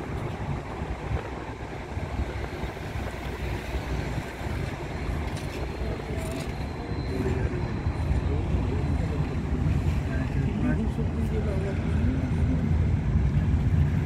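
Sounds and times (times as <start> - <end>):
car road and wind noise: 0.0 - 14.0
wind buffeting microphone: 0.0 - 14.0.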